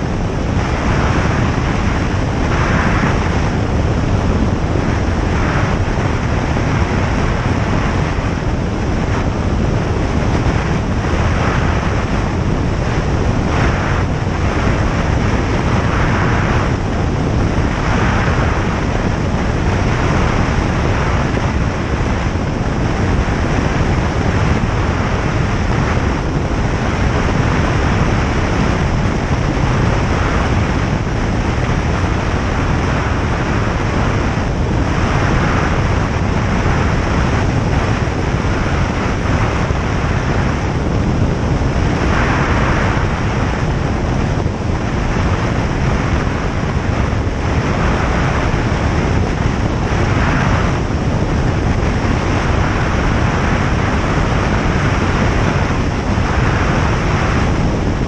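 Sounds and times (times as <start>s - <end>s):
light aircraft engine drone: 0.0s - 58.0s
rushing airflow: 0.0s - 58.0s.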